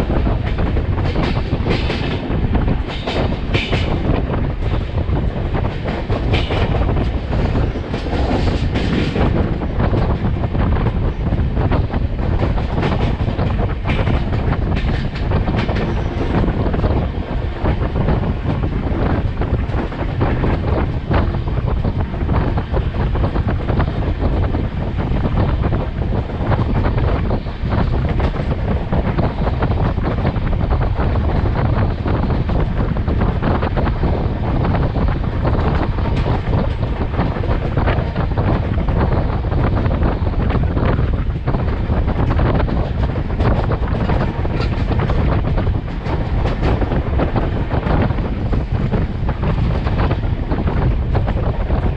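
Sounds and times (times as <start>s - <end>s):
train wheel and rail rumble: 0.0s - 51.9s
wind buffeting the microphone: 0.0s - 51.9s.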